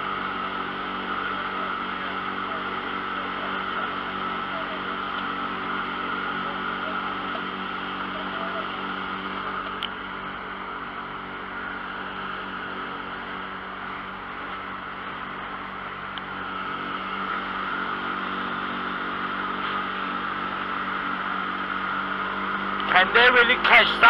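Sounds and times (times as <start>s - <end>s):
outboard motor running: 0.0s - 24.0s
water rushing along hull: 0.0s - 24.0s.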